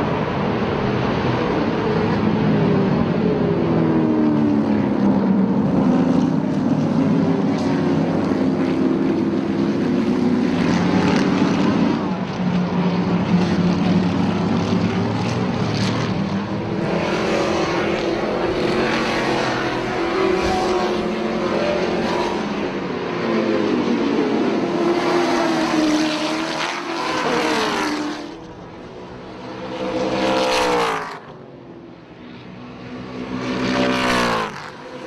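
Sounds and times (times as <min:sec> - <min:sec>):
race car engines passing: 0:00.0 - 0:35.0.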